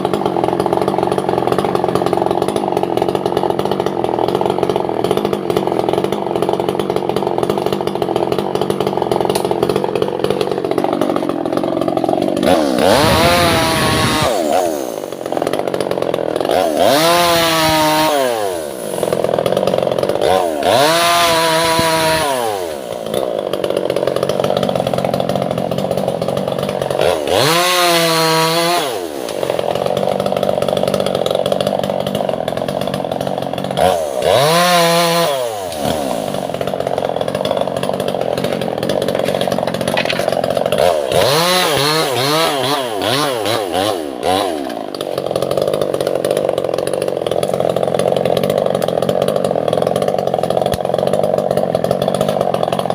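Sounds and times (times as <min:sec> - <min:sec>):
chainsaw cutting wood: 0:00.0 - 0:52.9
chainsaw revving in a rising whine: 0:00.0 - 0:52.9.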